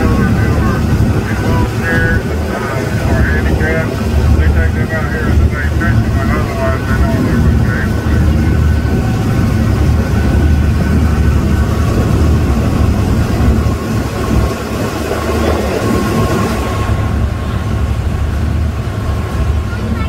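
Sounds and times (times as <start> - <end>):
vehicle engine droning on water: 0.0 - 20.0.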